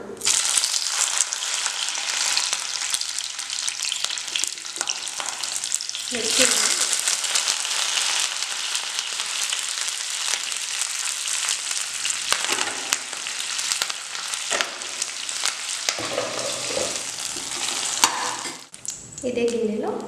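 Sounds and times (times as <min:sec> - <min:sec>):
spattering oil popping: 0:00.2 - 0:19.2
chillies sizzling in hot oil: 0:00.2 - 0:19.7.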